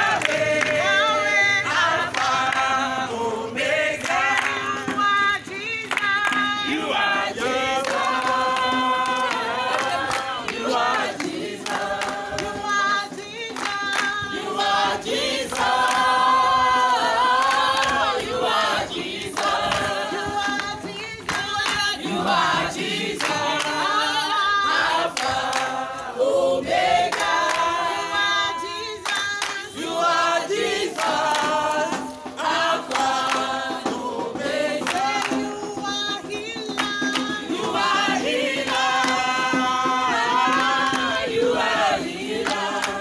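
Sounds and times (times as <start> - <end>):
group of people singing: 0.0 - 43.0.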